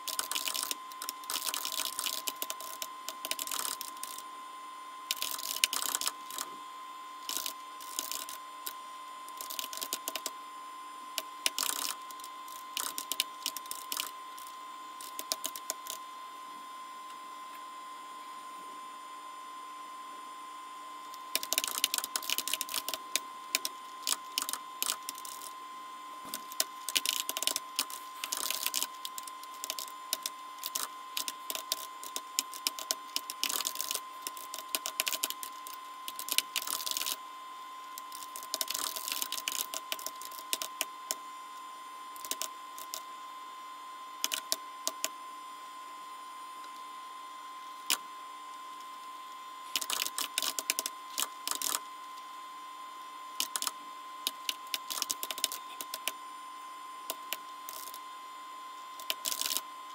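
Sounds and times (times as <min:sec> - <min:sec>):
faint steady tone: 0:00.0 - 0:59.9.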